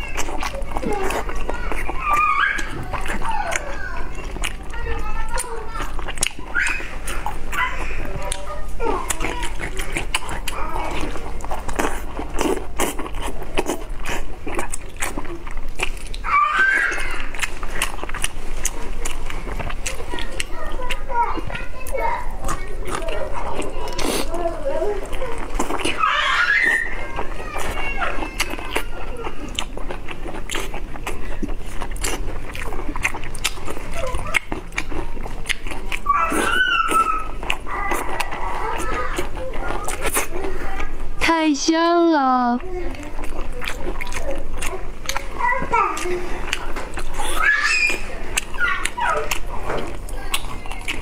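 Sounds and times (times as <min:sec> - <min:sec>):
wet chewing sounds: 0:00.0 - 0:51.0.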